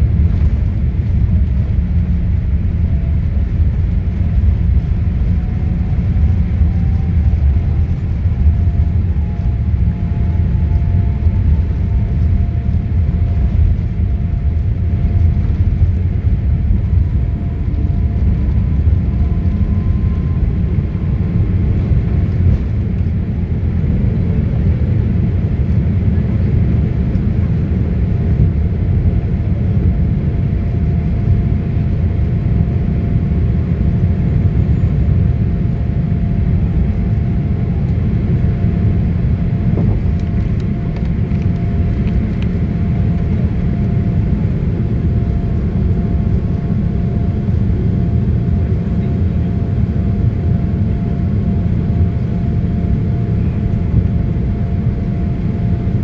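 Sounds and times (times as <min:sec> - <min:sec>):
jet engines and airflow rumble: 0:00.0 - 0:56.0.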